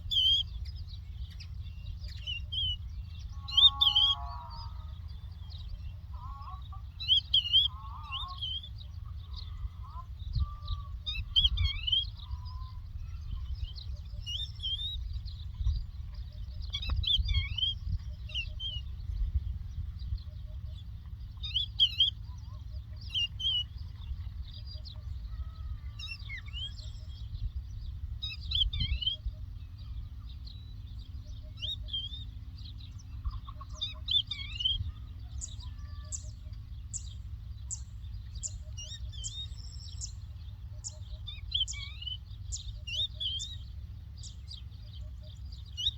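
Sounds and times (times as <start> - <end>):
lark singing: 0.0 - 45.9
steady low rumble: 0.0 - 45.9.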